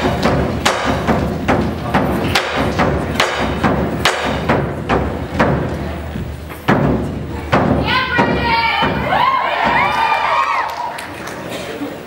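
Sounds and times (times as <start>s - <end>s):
booming drum beat: 0.0s - 10.0s.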